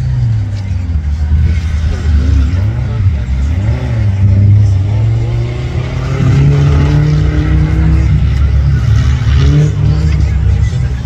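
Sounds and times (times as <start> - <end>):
engine revving under hard throttle: 0.0 - 11.0.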